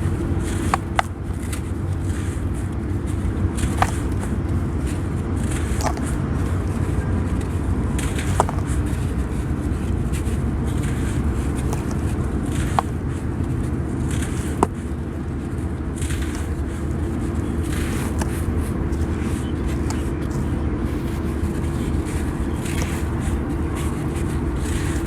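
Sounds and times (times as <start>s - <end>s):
damp sand crunching: 0.0s - 25.0s.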